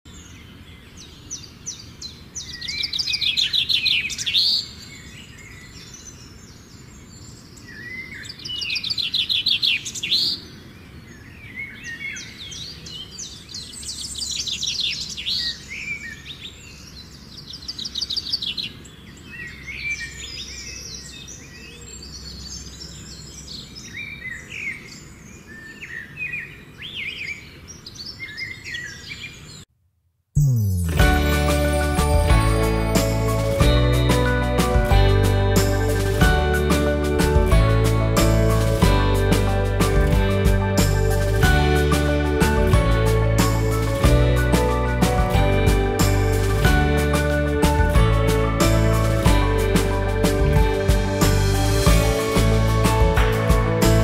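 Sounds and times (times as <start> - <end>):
birds chirping and whistling: 1.0 - 10.4, 11.4 - 29.6, 30.4 - 54.0.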